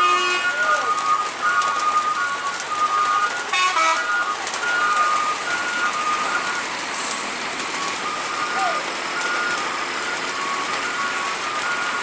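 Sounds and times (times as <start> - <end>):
rain: 0.0 - 12.0
traffic: 0.0 - 12.0
truck reversing alarm beeping: 0.0 - 12.0.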